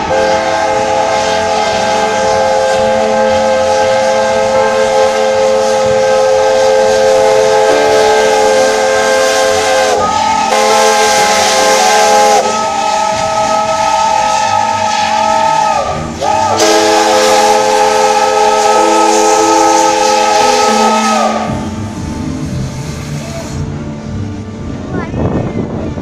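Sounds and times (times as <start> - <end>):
steam whistle blasts: 0.0 - 22.0
steam hissing: 0.0 - 23.8.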